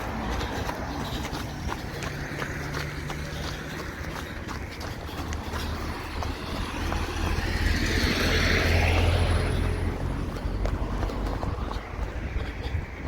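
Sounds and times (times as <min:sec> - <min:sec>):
runner's footsteps: 0:00.0 - 0:13.0
vehicle passing by: 0:00.0 - 0:13.0.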